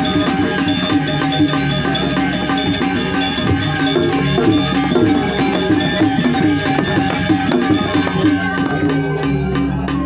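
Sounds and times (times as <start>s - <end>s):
gamelan music: 0.0s - 10.0s.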